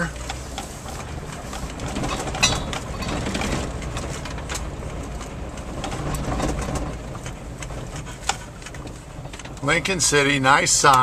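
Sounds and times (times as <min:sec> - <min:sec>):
car rumbling on gravel road: 0:00.0 - 0:11.0.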